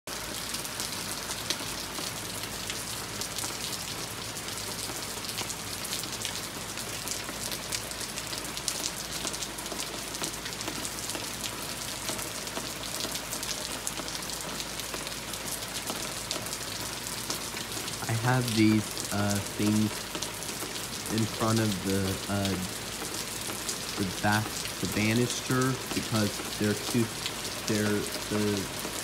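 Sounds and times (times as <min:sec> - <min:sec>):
rain on a wooden deck: 0:00.1 - 0:29.0.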